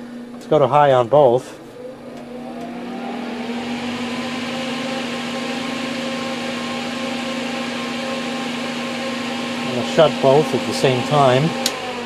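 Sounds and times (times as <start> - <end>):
fans whining and humming: 0.0 - 12.0.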